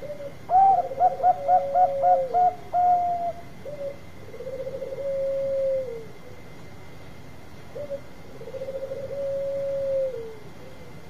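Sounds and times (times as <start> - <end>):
dove cooing with trill: 0.0 - 6.5, 7.7 - 11.0.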